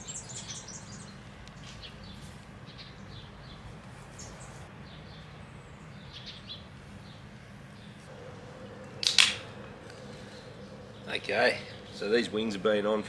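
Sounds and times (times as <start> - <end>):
low outdoor background rumble: 0.0 - 13.0
small birds chirping: 0.0 - 13.0.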